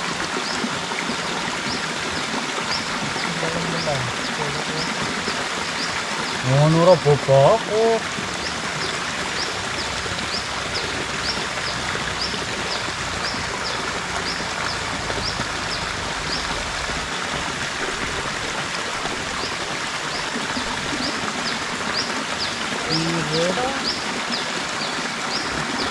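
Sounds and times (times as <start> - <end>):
stream running over rocks: 0.0 - 25.9.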